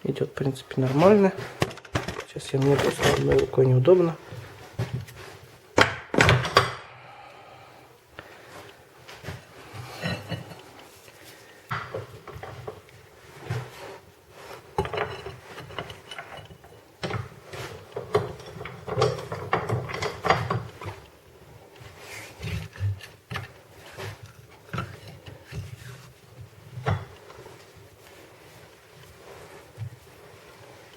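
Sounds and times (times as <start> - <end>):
bushing creaking and scraping: 0.4 - 5.6, 8.3 - 30.9.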